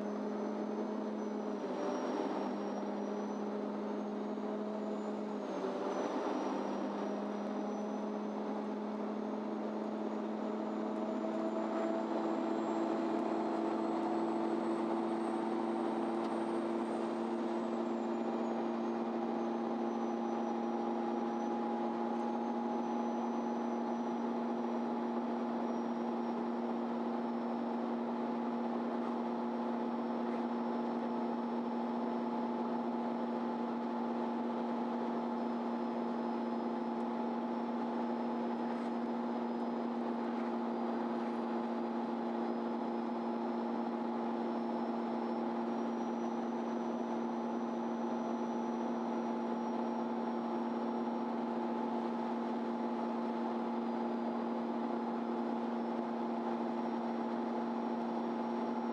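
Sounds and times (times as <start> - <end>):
faint high whine: 0.0 - 58.9
bus engine humming: 2.4 - 58.7.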